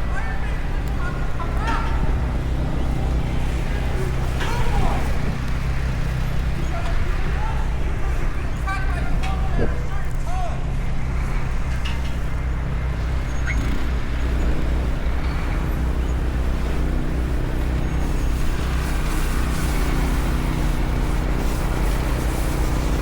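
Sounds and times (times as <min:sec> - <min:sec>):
large vehicle engine humming: 0:00.0 - 0:23.0
street traffic noise: 0:00.0 - 0:23.0.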